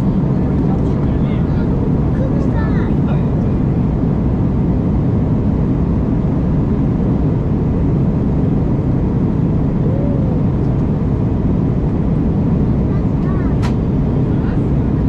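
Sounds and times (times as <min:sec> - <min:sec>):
airplane cabin engine noise: 0:00.0 - 0:15.0.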